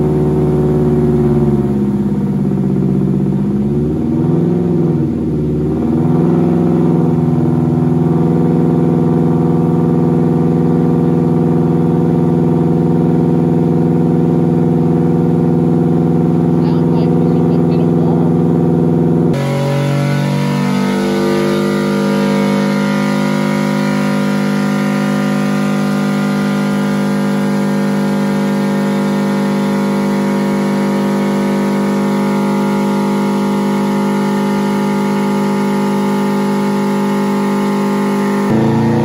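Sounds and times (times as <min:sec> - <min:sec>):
car engine running on dyno: 0:00.0 - 0:39.0.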